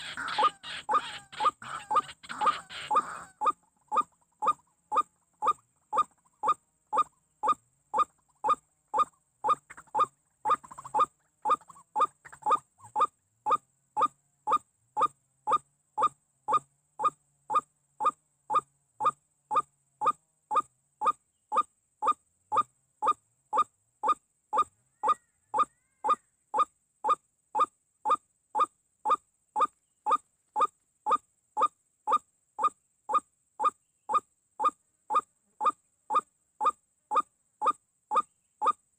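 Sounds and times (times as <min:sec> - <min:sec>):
bird calls: 0:00.0 - 0:19.6, 0:23.0 - 0:38.8.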